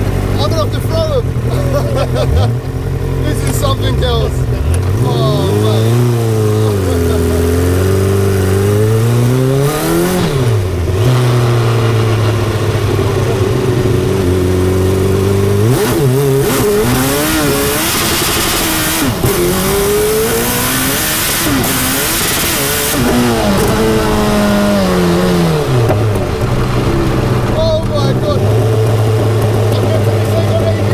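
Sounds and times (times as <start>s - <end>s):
car engine revving through gears: 0.0s - 30.9s.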